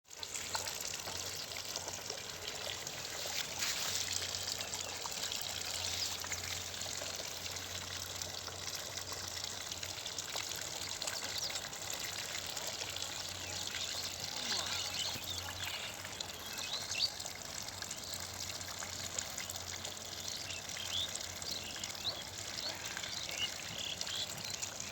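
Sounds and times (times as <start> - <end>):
water trickling and splashing: 0.0 - 24.9.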